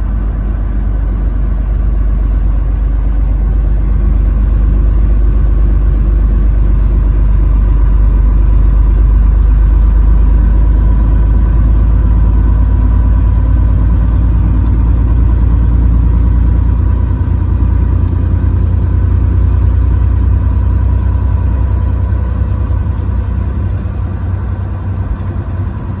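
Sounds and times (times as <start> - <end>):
truck driving rumble: 0.0 - 26.0.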